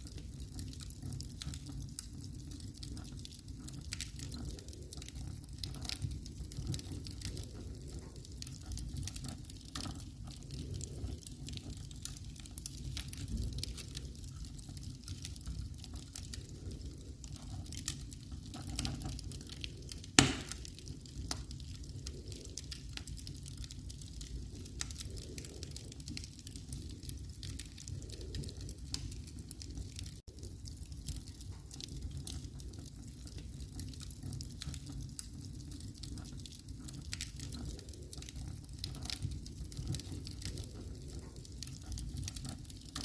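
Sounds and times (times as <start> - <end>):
fire popping: 0.0 - 43.0
wood fire crackling: 0.0 - 43.0.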